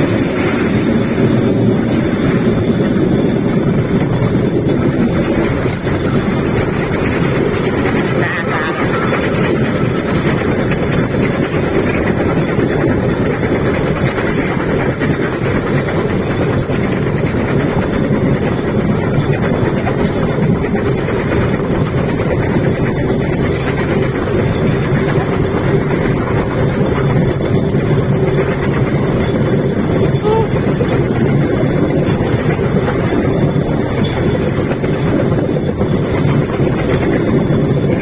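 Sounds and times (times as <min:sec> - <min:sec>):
wheels rattling on rails: 0:00.0 - 0:38.0.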